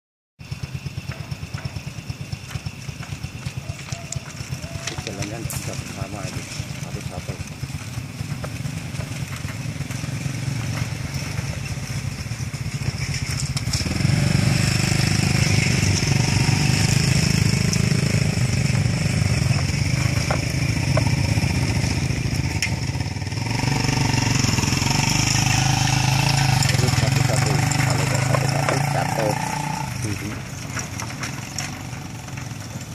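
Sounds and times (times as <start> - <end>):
small motorcycle engines running: 0.4 - 32.9.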